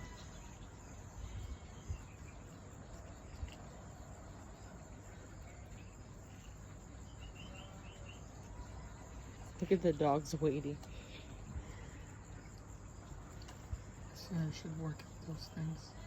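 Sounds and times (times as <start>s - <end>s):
chorus of insects: 0.0s - 16.0s
soft bird chirps: 0.0s - 16.0s.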